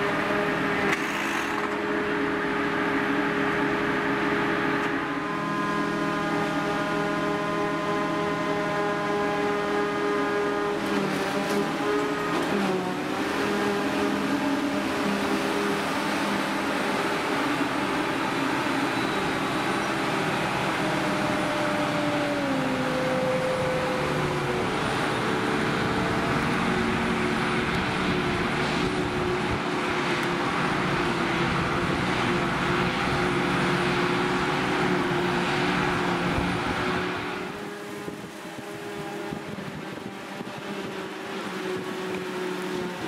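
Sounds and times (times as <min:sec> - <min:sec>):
forage harvester machine drone: 0:00.0 - 0:43.0
tractor running: 0:00.0 - 0:43.0.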